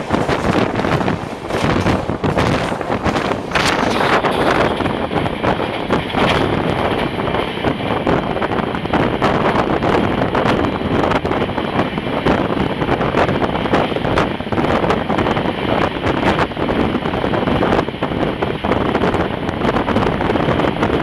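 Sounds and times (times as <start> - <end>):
train wheels clicking and rattling: 0.0 - 21.0
wind rushing over microphone: 0.0 - 21.0.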